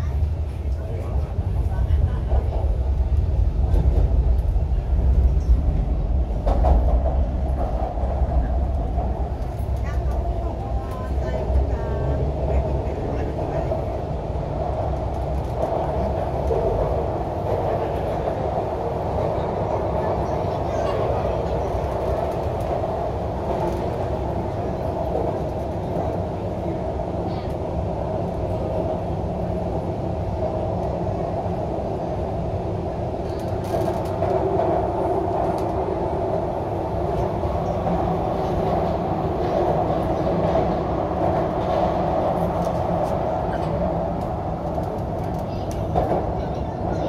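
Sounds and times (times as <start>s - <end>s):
metro car running: 0.0s - 47.0s.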